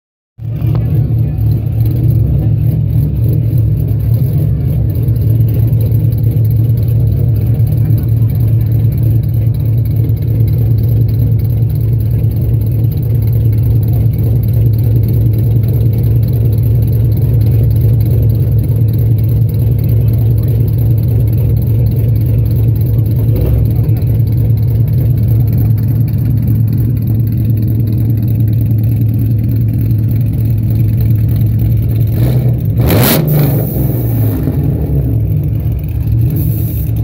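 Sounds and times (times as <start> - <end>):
car exhaust idling: 0.4 - 37.0.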